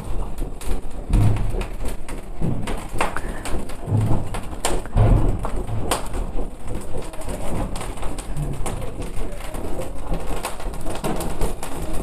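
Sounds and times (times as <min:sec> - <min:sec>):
burning coals crackling: 0:00.0 - 0:12.0.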